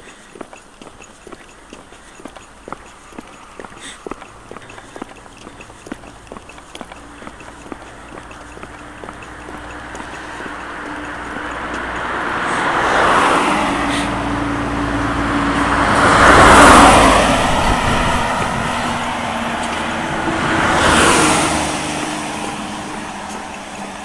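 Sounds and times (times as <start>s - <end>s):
large truck passing: 0.0s - 24.0s
road vehicles passing: 0.0s - 24.0s.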